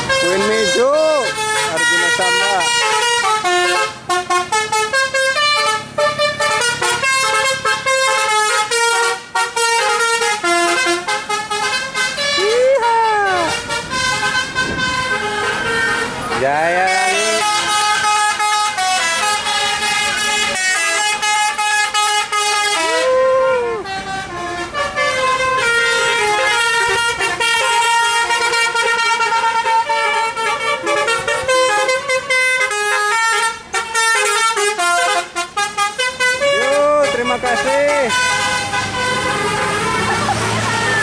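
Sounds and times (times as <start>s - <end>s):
multi-tone musical bus horn: 0.0s - 41.0s.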